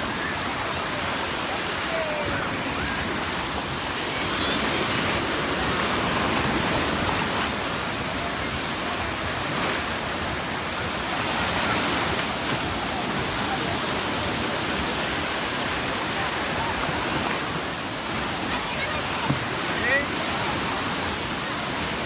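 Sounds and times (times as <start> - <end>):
murmur of large crowd: 0.0 - 22.0
waves washing on shore: 0.0 - 22.0.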